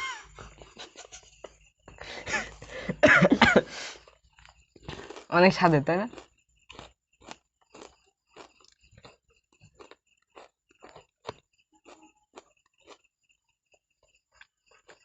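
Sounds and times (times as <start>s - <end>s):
person chewing crisp crunches: 0.0s - 3.0s, 3.6s - 15.0s.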